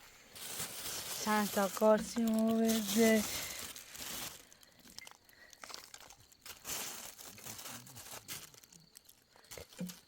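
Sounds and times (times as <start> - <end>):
crinkling and rustling: 0.3 - 10.0.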